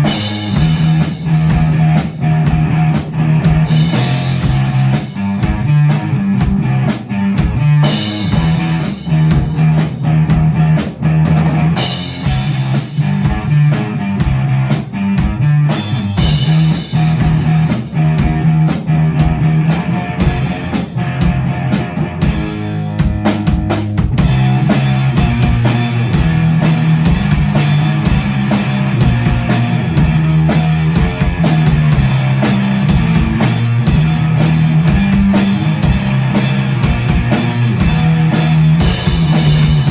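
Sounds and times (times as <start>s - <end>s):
drum kit beat: 0.0s - 39.9s
electric guitar: 0.0s - 39.9s.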